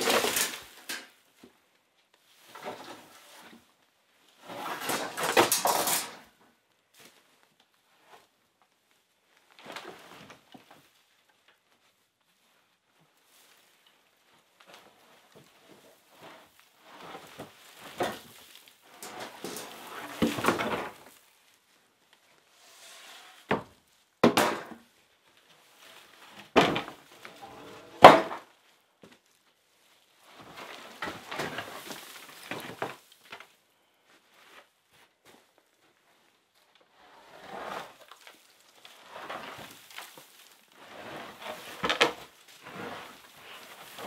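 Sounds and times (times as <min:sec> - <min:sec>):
wood scraping and rustling: 0:00.0 - 0:01.6, 0:02.2 - 0:08.4, 0:09.4 - 0:44.0.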